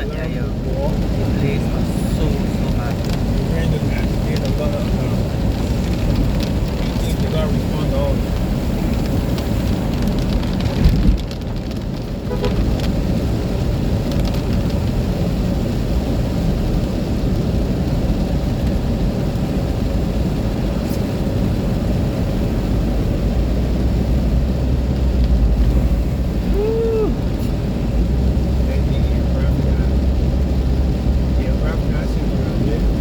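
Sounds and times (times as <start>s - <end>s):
low engine drone: 0.0s - 11.3s, 14.7s - 33.0s
road and rain noise: 0.0s - 33.0s.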